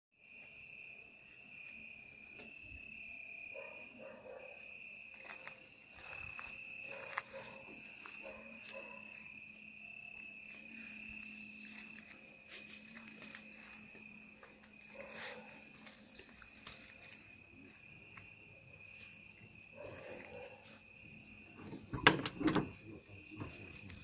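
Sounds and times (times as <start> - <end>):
cricket trilling: 0.2 - 24.0.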